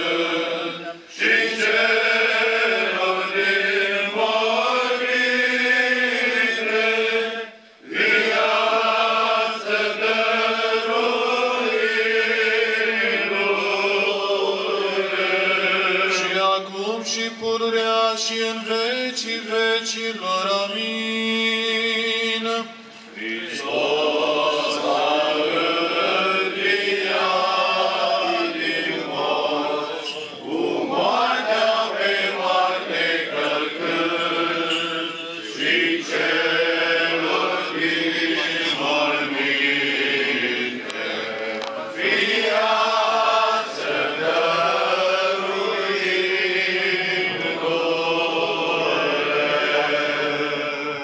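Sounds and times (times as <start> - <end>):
male voices chanting: 0.0 - 51.0.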